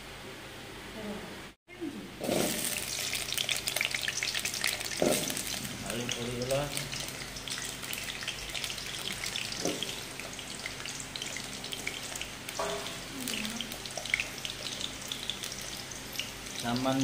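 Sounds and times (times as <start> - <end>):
potatoes sizzling in hot oil: 2.2 - 17.0.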